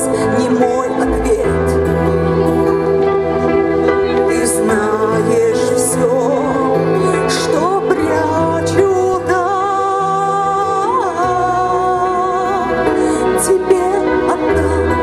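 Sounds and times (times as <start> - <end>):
woman singing into a microphone: 0.0 - 1.9, 4.0 - 15.0
backing music: 0.0 - 15.0.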